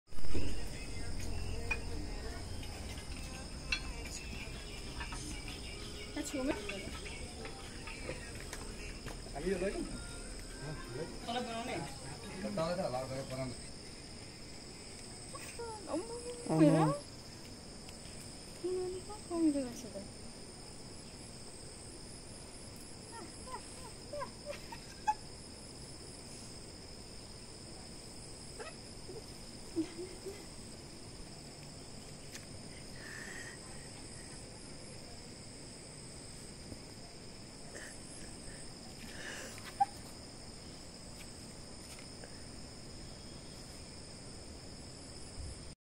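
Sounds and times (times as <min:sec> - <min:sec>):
insect chirring: 0:00.1 - 0:45.8.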